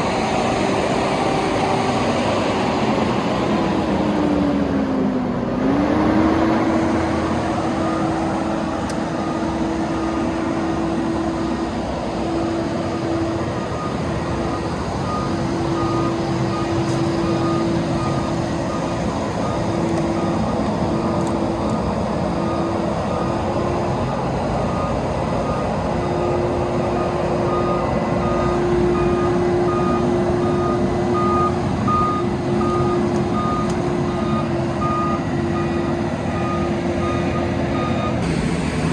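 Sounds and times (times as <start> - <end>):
paver engine whining: 0.0 - 38.9.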